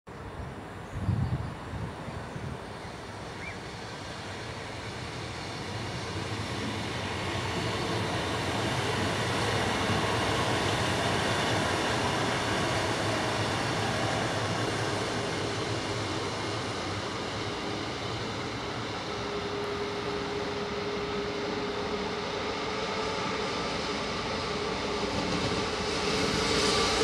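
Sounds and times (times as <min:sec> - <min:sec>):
diesel freight train approaching: 0:00.2 - 0:27.0.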